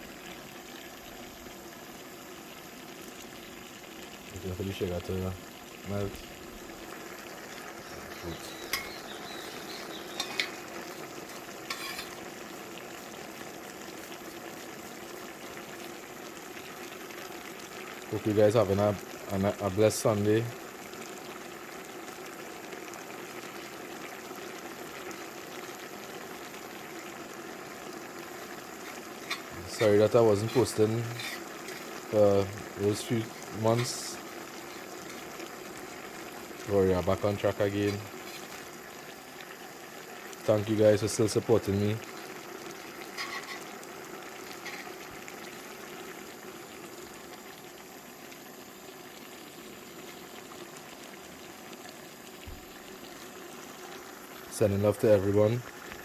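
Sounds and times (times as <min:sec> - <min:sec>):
food bubbling and sizzling in pot: 0:00.0 - 0:56.0.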